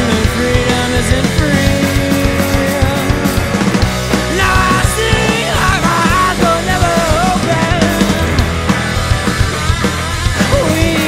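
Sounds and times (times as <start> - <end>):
lead guitar bending notes: 0.0 - 10.7
rock band playing: 0.0 - 11.0.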